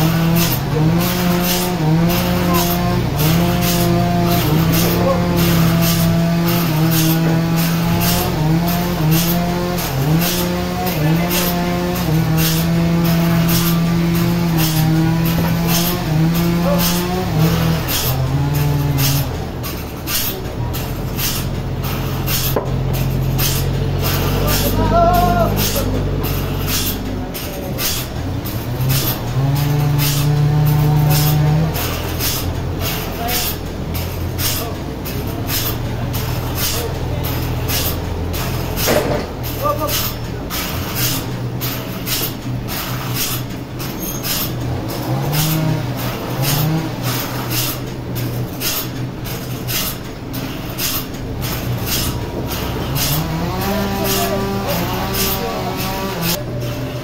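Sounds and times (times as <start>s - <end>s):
band saw motor hum: 0.0s - 57.0s
forklift engine running: 0.0s - 57.0s.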